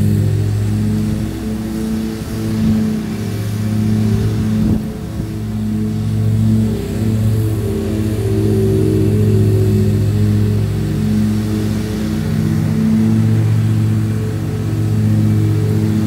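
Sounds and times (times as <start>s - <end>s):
mower engine running: 0.0s - 16.0s.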